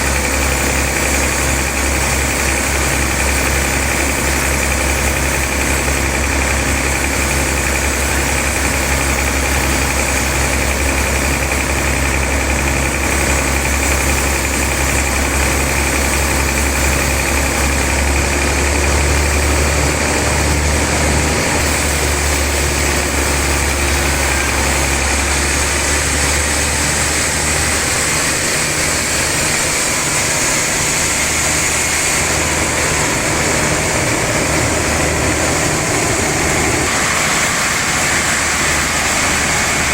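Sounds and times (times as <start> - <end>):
sawmill machinery sawing log: 0.0 - 39.9.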